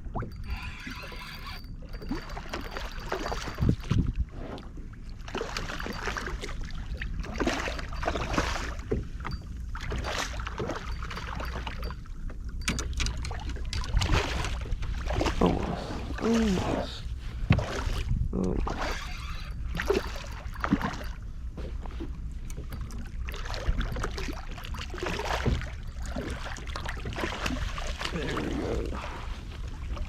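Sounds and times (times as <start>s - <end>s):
water splashing and sloshing: 0.0s - 30.0s
wind rumble on microphone: 0.0s - 30.0s.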